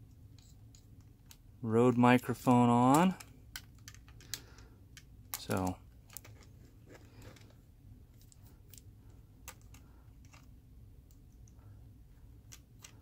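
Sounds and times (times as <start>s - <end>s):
small clicks and rubs of handling: 0.1s - 2.0s, 2.9s - 11.7s, 12.4s - 13.0s.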